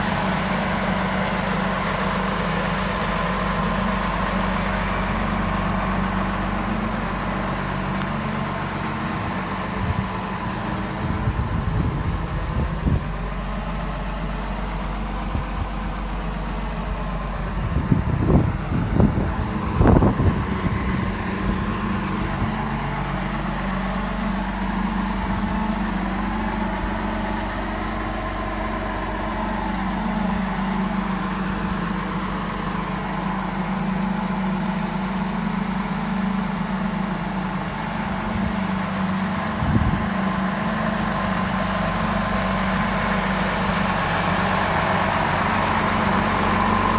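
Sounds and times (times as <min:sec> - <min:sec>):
vehicle engine idling: 0:00.0 - 0:46.9.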